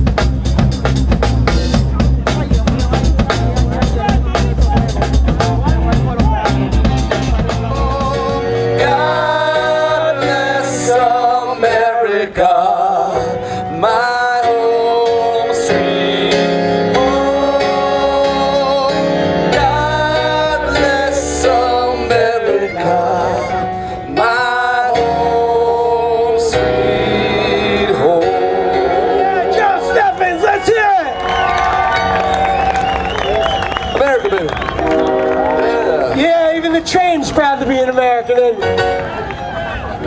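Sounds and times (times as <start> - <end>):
live band music: 0.0 - 40.0.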